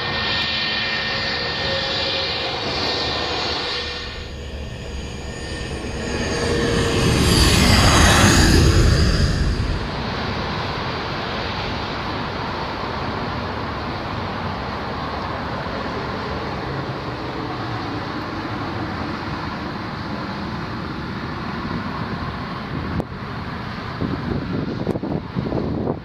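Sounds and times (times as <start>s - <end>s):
jet airliner engine noise: 0.0s - 26.0s.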